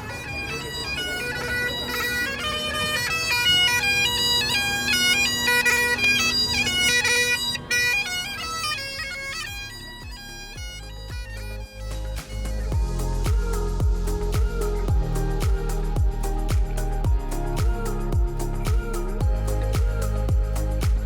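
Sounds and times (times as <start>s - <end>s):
bagpipes playing over drone: 0.0s - 20.8s.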